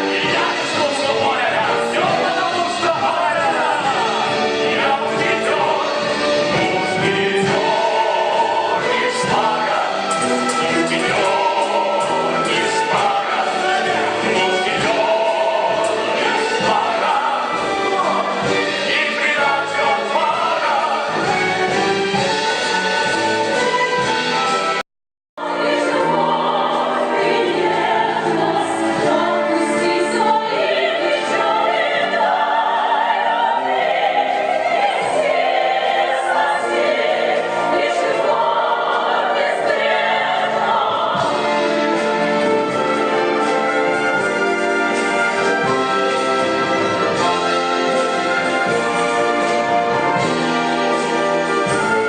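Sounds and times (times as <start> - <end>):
voices singing: 0.0 - 23.8, 25.4 - 52.0
orchestral accompaniment: 0.0 - 24.8, 25.4 - 52.0.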